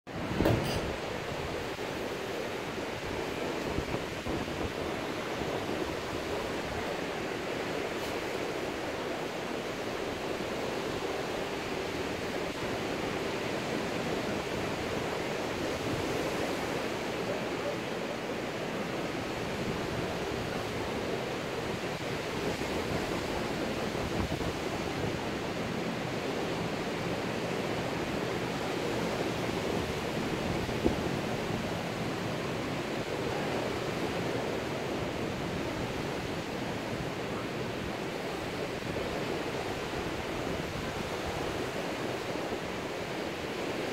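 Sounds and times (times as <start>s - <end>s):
wind: 0.0s - 43.9s
ocean surf breaking: 0.1s - 43.9s.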